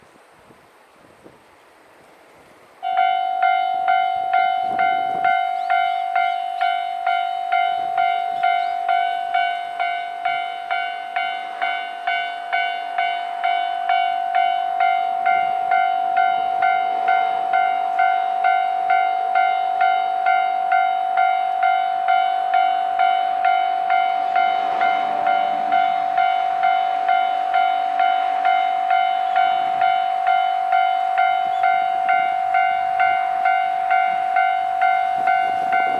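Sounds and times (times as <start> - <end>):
level crossing warning bell: 2.8 - 35.9.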